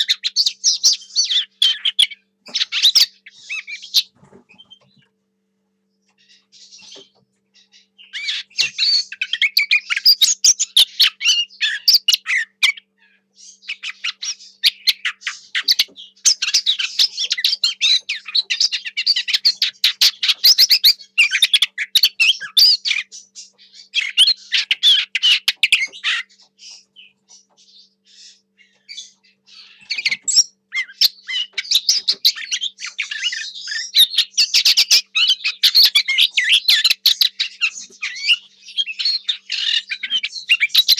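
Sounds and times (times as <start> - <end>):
bird warbling: 0.0 - 5.1, 6.2 - 40.9.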